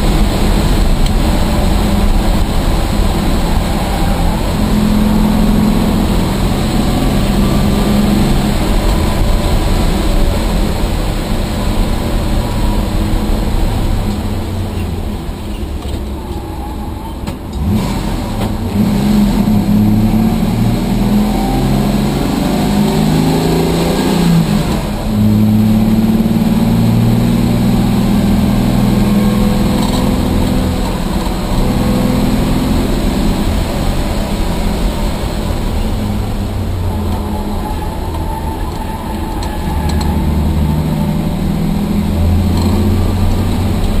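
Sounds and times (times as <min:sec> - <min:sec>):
race car engine from inside cabin: 0:00.0 - 0:44.0.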